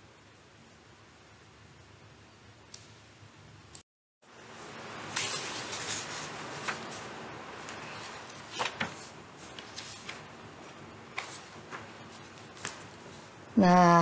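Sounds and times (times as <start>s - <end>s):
room noise hiss: 0.0s - 14.0s.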